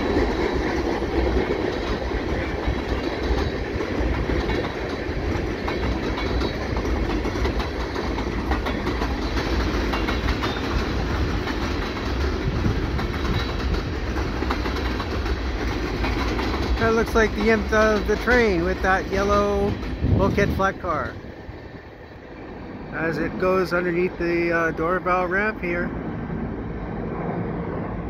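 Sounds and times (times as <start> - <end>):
wheels clicking over rail joints: 0.0 - 22.5
freight train wheels rumbling on rail: 0.0 - 28.0.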